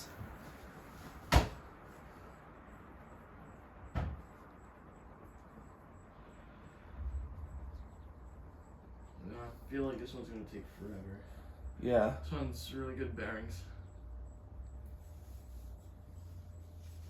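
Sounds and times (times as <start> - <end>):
ceiling fan whirring: 0.0 - 17.0.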